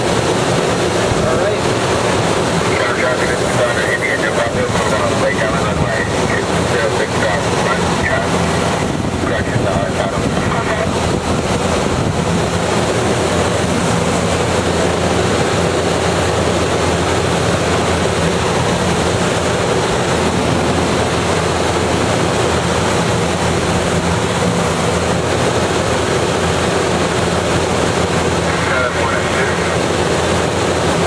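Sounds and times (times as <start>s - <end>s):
faint low engine drone: 0.0s - 31.0s
rushing airflow in cockpit: 0.0s - 31.0s.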